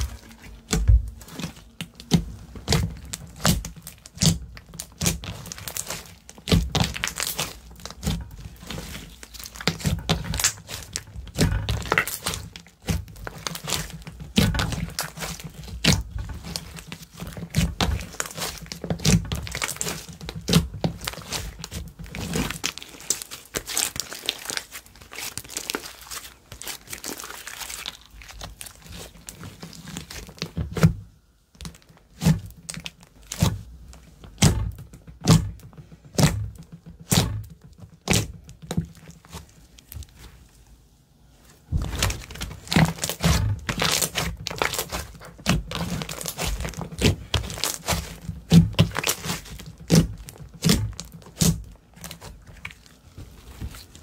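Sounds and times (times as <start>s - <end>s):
slime squelching and popping: 0.0s - 40.4s, 41.7s - 54.0s.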